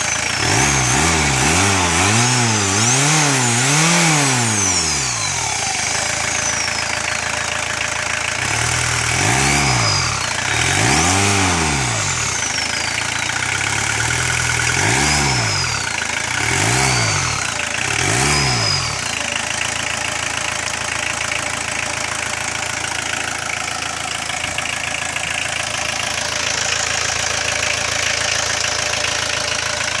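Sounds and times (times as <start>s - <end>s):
car engine revving and idling: 0.0s - 30.0s.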